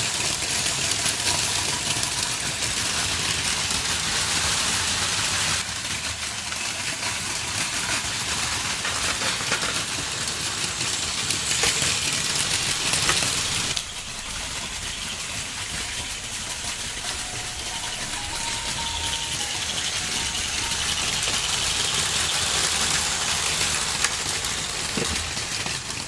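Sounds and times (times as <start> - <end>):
toy trains whirring and rattling: 0.0 - 26.0.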